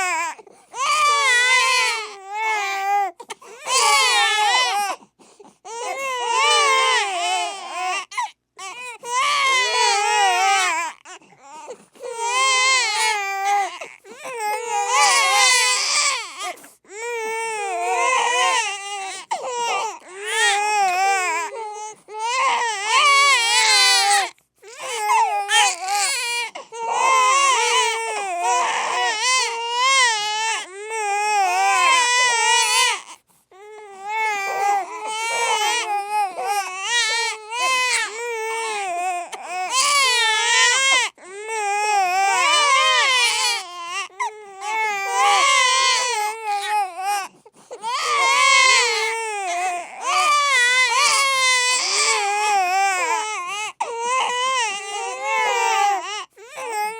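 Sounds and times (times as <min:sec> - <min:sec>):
babies crying: 0:00.0 - 0:05.0, 0:05.7 - 0:56.9.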